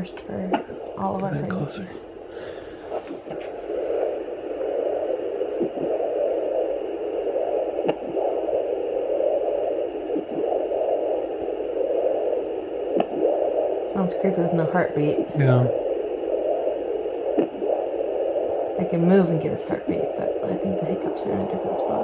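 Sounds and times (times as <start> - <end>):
doppler static hiss: 0.0 - 22.0.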